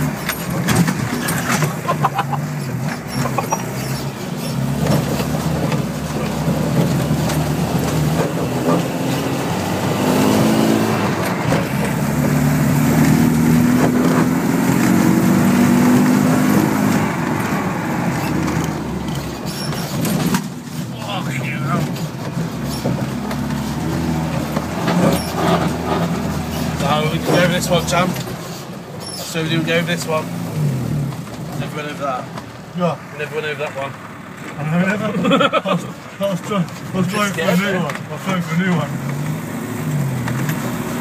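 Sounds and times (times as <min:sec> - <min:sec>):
diesel engine driving hard: 0:00.0 - 0:41.0.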